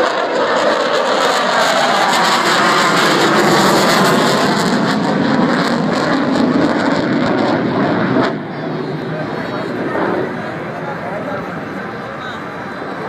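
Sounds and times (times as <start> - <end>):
jet aircraft flying over: 0.0 - 13.0.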